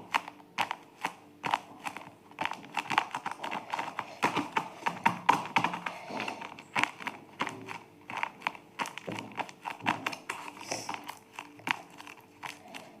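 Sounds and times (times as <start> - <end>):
packaging crinkling and rustling: 0.2 - 13.0.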